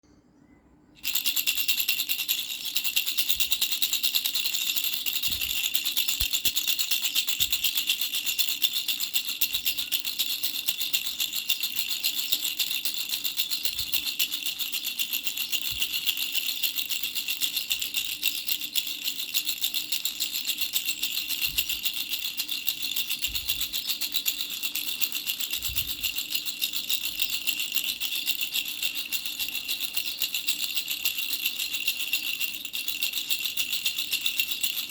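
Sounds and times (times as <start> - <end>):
toy baby rattle shaken: 1.0 - 34.9.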